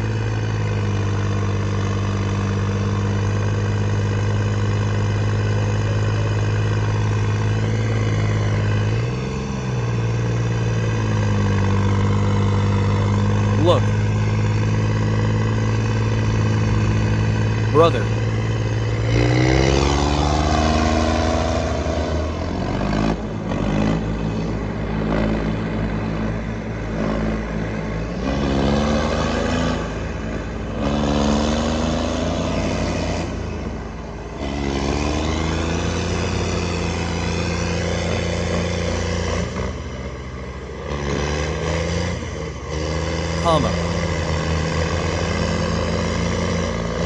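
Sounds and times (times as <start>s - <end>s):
diesel tractor engines revving hard: 0.0s - 47.0s.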